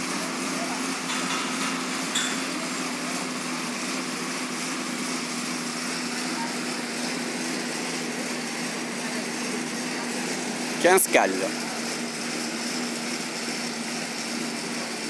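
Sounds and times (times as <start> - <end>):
exercise bike fan whirring: 0.0 - 15.0.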